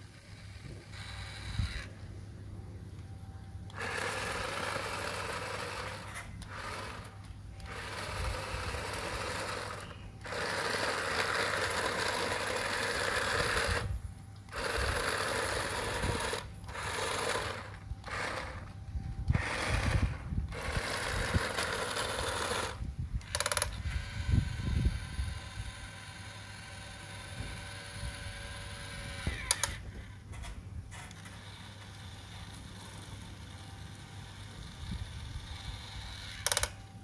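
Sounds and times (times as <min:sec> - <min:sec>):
toy motor and gears whirring: 0:00.0 - 0:02.0, 0:03.6 - 0:37.0.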